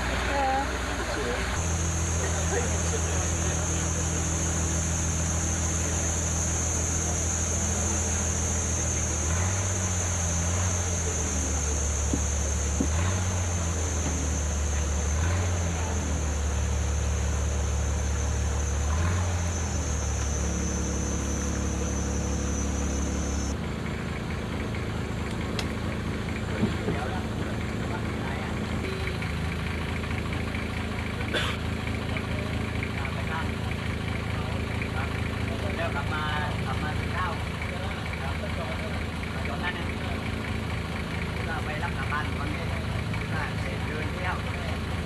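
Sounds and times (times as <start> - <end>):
boat engine humming: 0.0 - 45.0.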